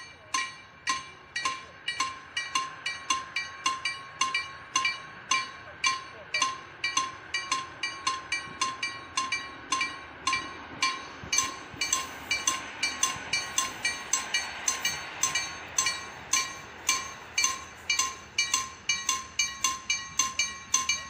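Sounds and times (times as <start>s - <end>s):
railway crossing warning bell: 0.0s - 21.0s.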